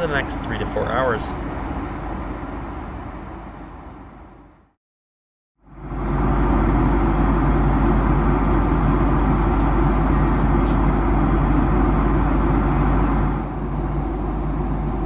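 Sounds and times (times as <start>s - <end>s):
airliner cabin engine drone: 0.0s - 4.7s, 5.7s - 15.0s.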